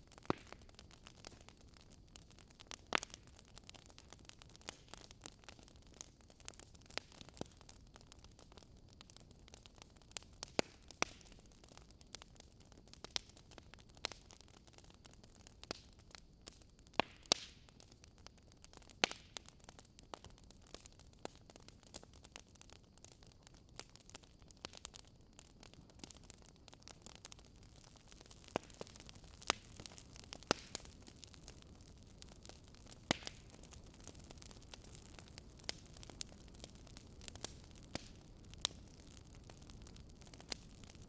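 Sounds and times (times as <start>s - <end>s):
faint steady hiss: 0.0s - 41.0s
wood fire crackling: 0.0s - 41.0s.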